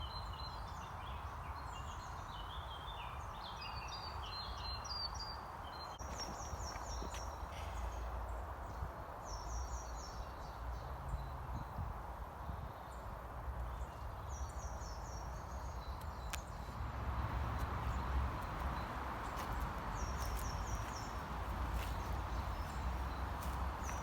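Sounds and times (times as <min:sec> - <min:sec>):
small songbird singing: 0:00.0 - 0:11.8, 0:12.5 - 0:24.0
wind rumble on microphone: 0:00.0 - 0:24.0.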